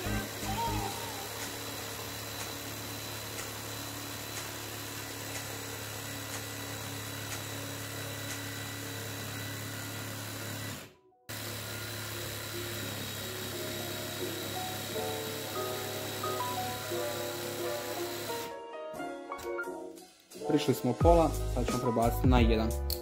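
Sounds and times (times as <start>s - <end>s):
jigsaw cutting chipboard: 0.0s - 18.6s.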